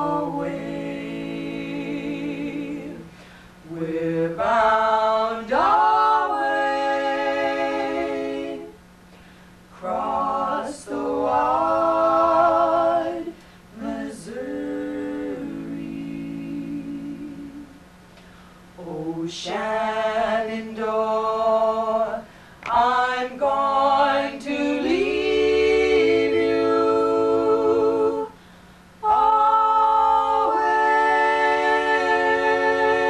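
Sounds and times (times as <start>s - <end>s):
female trio singing in harmony: 0.0s - 9.0s, 9.7s - 33.0s.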